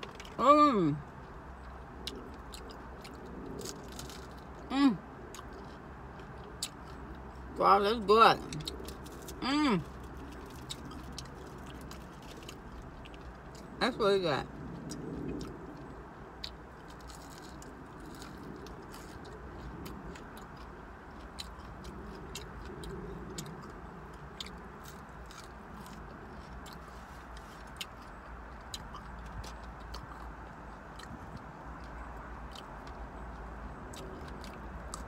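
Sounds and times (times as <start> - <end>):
person chewing food: 0.0 - 0.4, 1.0 - 7.5, 8.4 - 13.8, 14.6 - 35.0
low background hum: 0.0 - 35.0.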